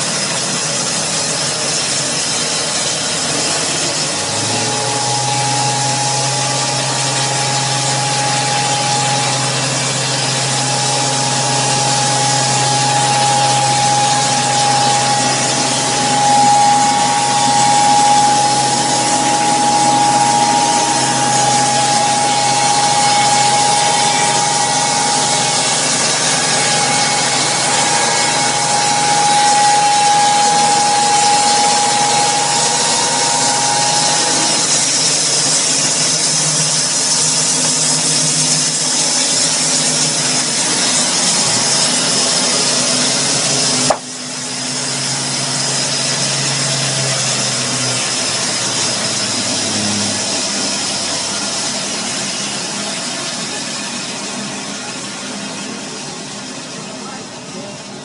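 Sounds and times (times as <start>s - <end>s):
wood-cutting machinery whining: 0.0s - 58.0s.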